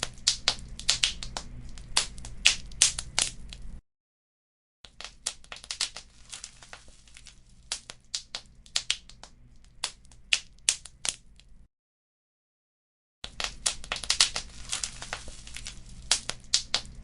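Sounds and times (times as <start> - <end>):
wood fire crackling: 0.0 - 3.8, 5.0 - 11.5, 13.3 - 17.0.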